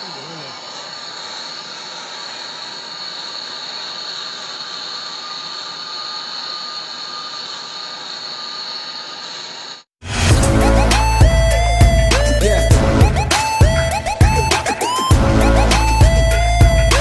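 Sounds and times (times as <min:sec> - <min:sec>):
gas torch hissing roar: 0:00.0 - 0:17.0.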